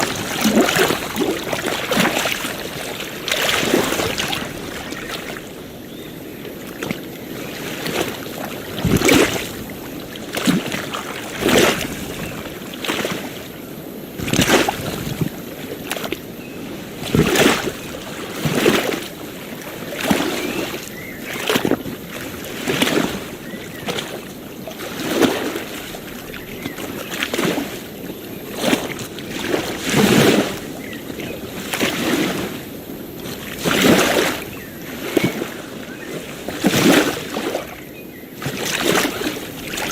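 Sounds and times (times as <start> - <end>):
small waves lapping on beach: 0.0 - 39.9.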